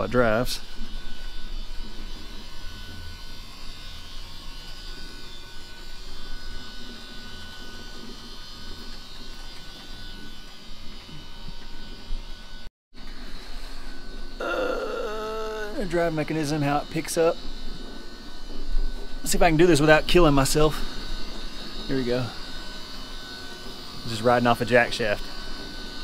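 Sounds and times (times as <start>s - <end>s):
gear motor buzzing: 0.0s - 26.0s.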